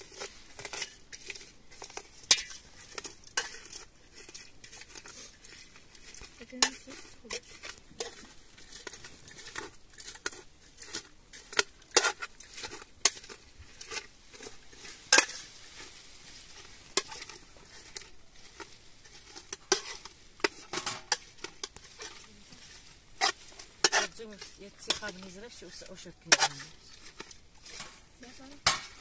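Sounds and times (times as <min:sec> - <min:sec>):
faint steady hiss: 0:00.0 - 0:29.0
utensil scraping cooking pot: 0:00.0 - 0:29.0.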